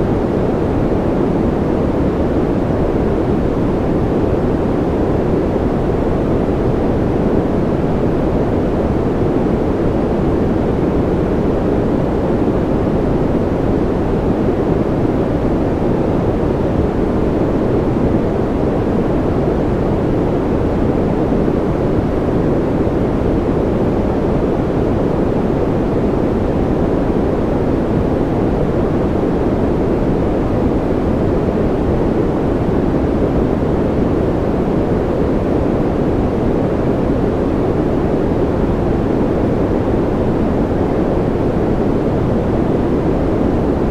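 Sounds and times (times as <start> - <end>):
deep white noise: 0.0 - 43.9.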